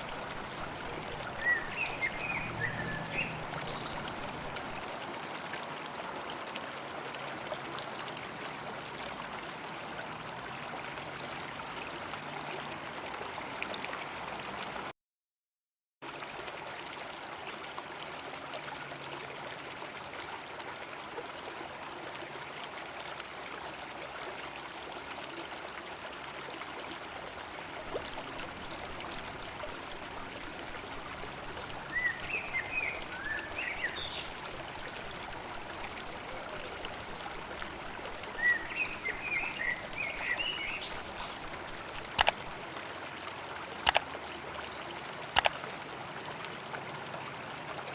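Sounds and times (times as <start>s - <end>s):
river water rushing: 0.0s - 14.8s, 23.8s - 47.9s.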